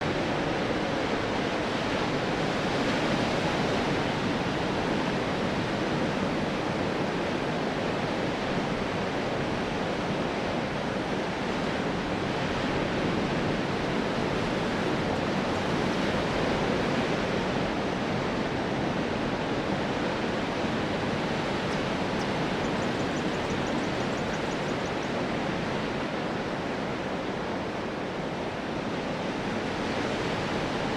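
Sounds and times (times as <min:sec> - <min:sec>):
ocean surf washing onto beach: 0:00.1 - 0:30.9.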